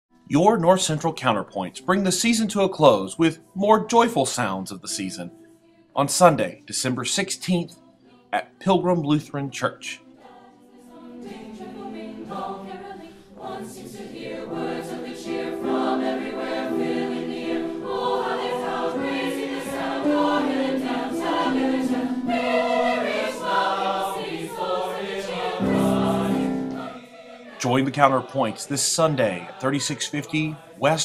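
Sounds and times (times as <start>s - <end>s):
choir singing held notes: 6.0s - 31.0s.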